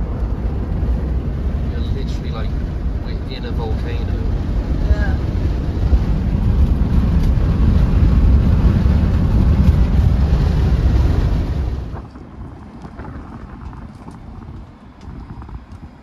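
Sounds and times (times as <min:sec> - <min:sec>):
vehicle rumble: 0:00.0 - 0:16.0
wind buffeting microphone: 0:00.0 - 0:16.0.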